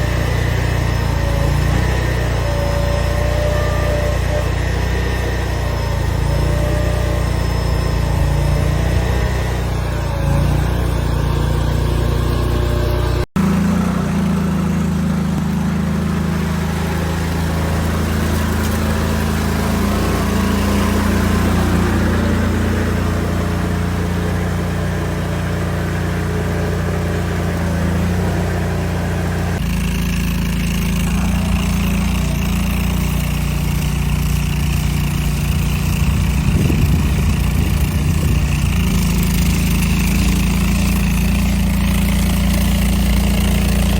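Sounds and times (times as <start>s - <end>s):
skid steer loader engine running: 0.0s - 43.9s.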